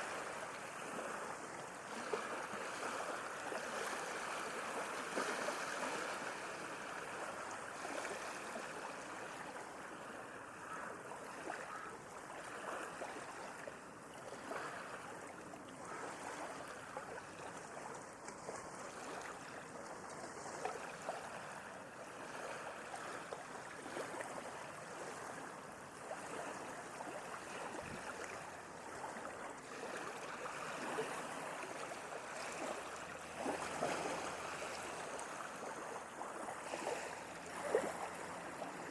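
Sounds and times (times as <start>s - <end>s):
sea waves washing on shore: 0.0s - 38.9s.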